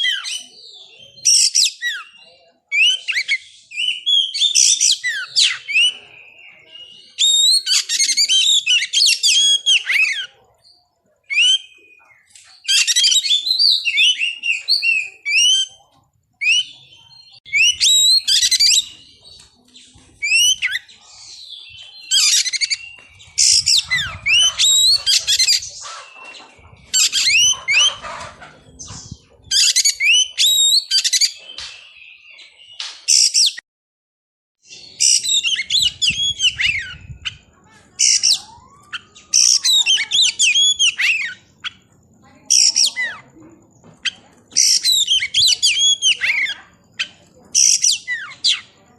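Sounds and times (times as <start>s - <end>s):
bird singing whistles and chirps: 0.0s - 33.6s, 34.6s - 41.9s, 44.0s - 48.8s.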